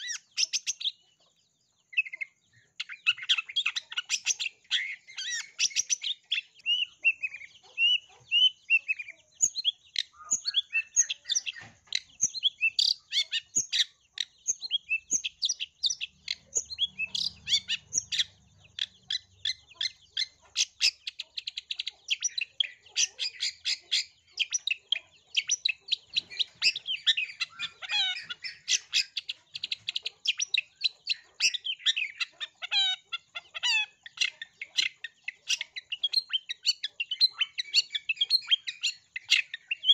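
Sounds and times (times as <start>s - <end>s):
bird singing chirps: 0.0s - 39.9s.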